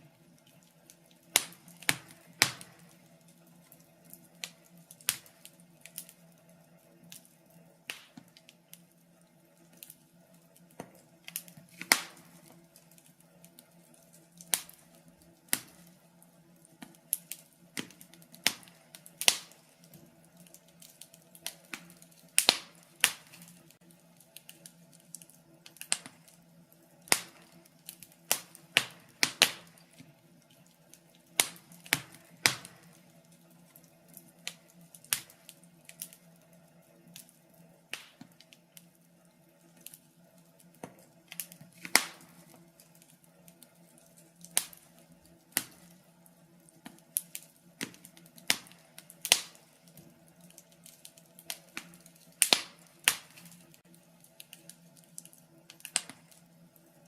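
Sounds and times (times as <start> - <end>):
wood fire pops and snaps: 0.0 - 57.0.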